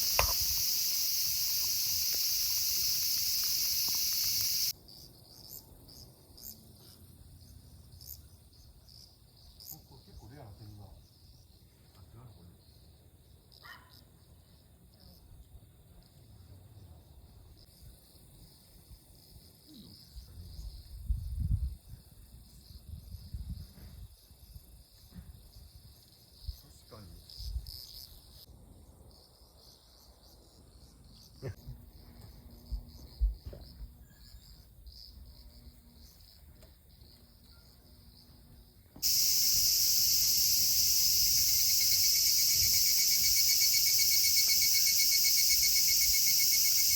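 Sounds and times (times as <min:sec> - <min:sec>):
insects chirping: 0:00.0 - 0:46.9.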